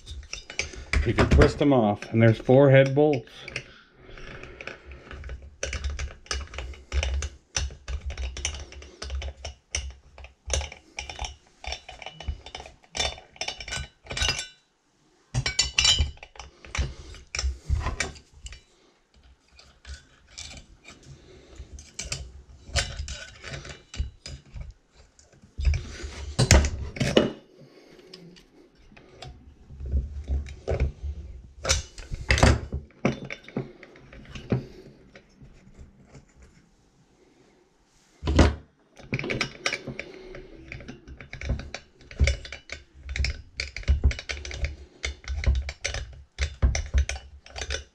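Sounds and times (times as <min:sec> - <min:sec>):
bolts and tool handled: 0:00.0 - 0:14.6, 0:15.4 - 0:36.6, 0:38.2 - 0:47.9.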